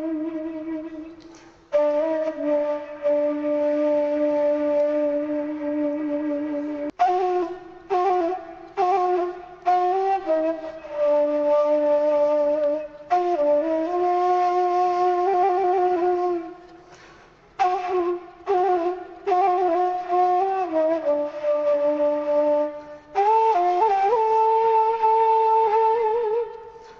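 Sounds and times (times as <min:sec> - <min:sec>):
solo woodwind melody: 0:00.0 - 0:26.9.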